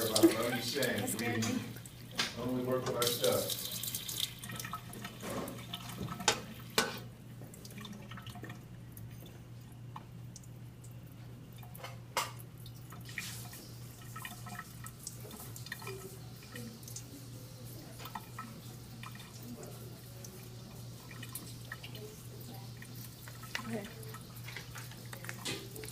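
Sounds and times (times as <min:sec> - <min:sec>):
water dripping into a sink: 0:00.0 - 0:25.9.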